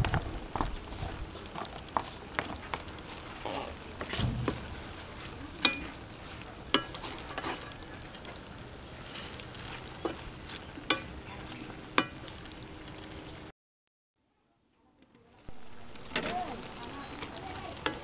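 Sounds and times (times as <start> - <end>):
wooden utensil stirring in wok: 1.0 - 13.0, 15.5 - 18.0.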